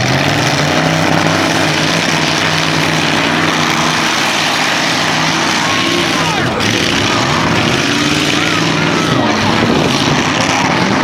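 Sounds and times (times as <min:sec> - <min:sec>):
truck engines running: 0:00.0 - 0:11.0.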